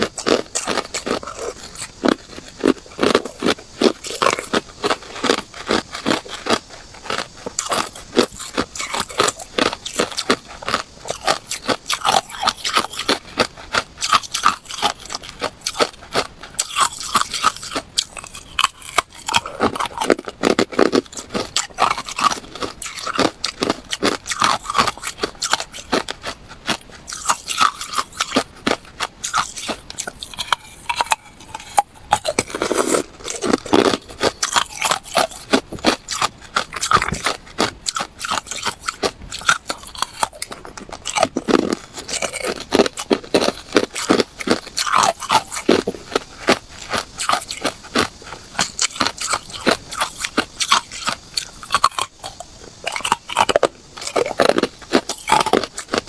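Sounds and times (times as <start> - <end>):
chewing hard ice crunching: 0.0 - 56.0.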